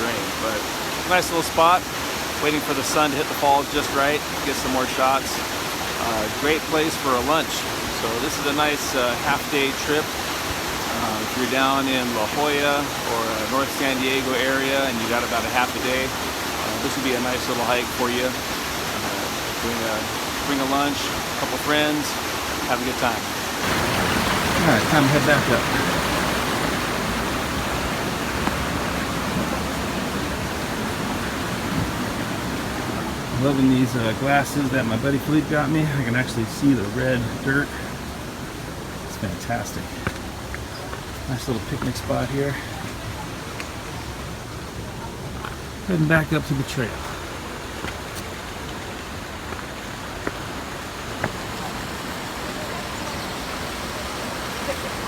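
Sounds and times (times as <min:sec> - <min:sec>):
water rushing over rocks: 0:00.0 - 0:55.0.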